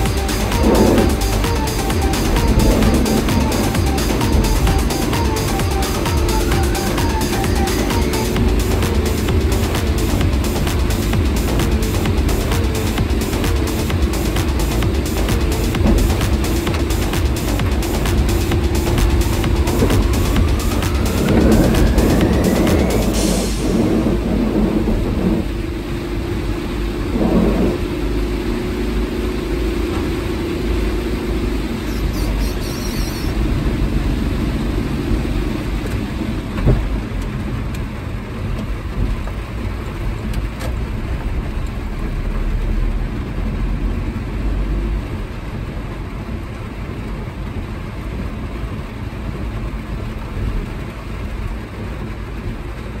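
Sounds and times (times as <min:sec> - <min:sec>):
windshield wipers sweeping: 0:00.0 - 0:43.3
car tyres and engine running: 0:00.0 - 0:53.0
heavy rain on car roof: 0:00.0 - 0:53.0.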